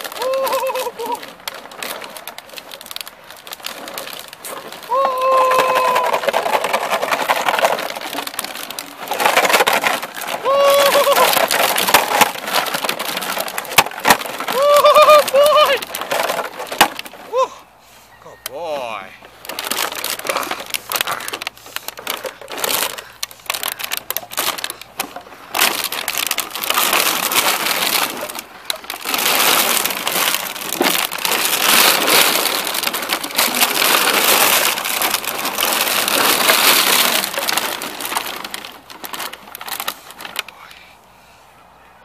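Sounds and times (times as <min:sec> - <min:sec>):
plastic bottles crackling and clattering: 0:00.0 - 0:17.7, 0:18.3 - 0:40.6.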